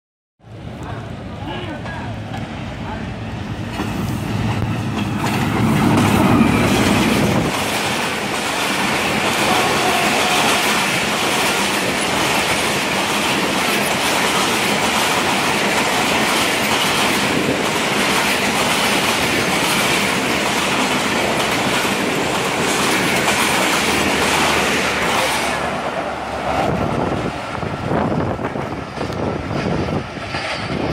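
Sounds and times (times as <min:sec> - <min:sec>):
diesel locomotive rumble: 0:00.4 - 0:30.9
train wheels clattering over rail joints: 0:03.7 - 0:25.8, 0:28.1 - 0:30.9.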